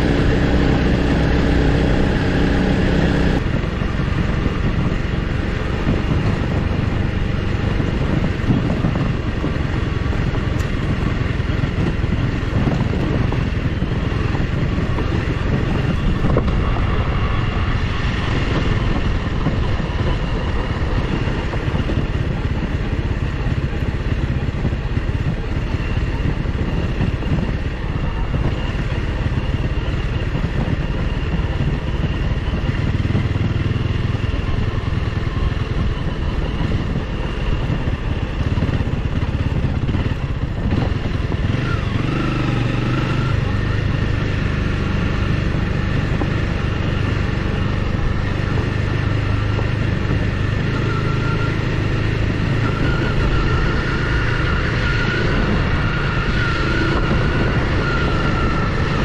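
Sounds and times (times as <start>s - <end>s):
motorcycle engine running: 0.0s - 59.0s
tyre and road noise: 0.0s - 59.0s.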